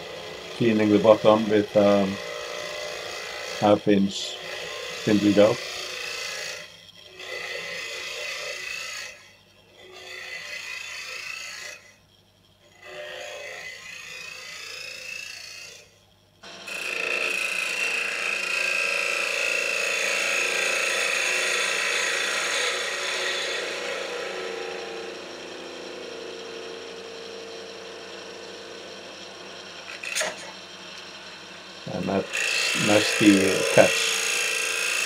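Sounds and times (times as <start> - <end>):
lathe gouge scraping wood: 0.0 - 35.0.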